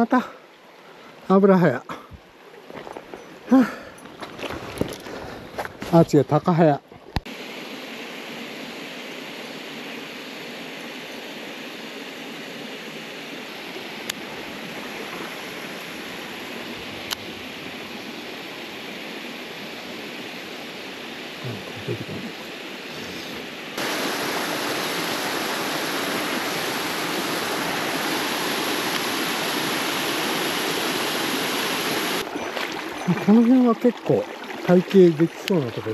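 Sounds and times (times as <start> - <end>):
mountain stream rushing: 0.0 - 35.9.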